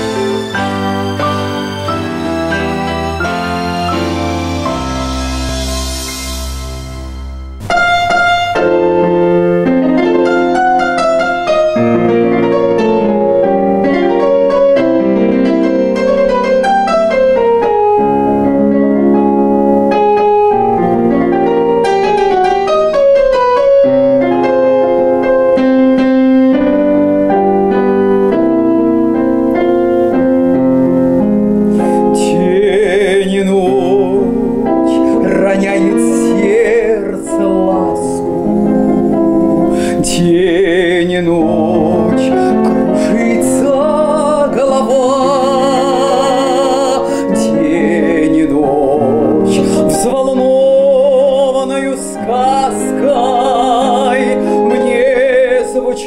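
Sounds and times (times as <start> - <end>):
slow piano chords and melody: 0.0 - 56.0.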